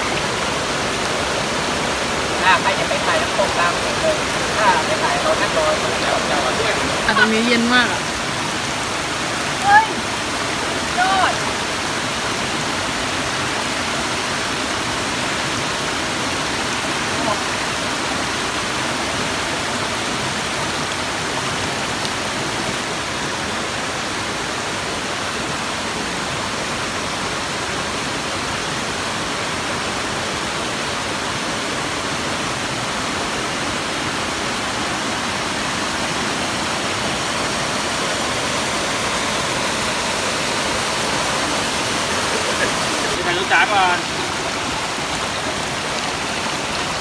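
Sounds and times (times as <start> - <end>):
rushing water: 0.0 - 47.0.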